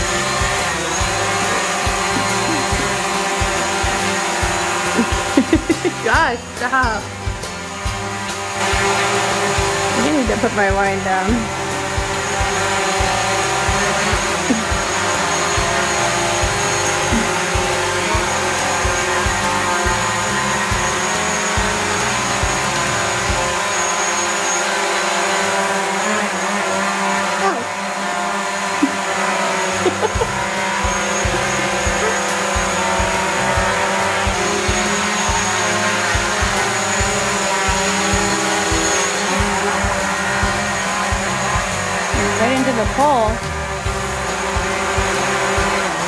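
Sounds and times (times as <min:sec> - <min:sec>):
drone propellers whining: 0:00.0 - 0:46.0.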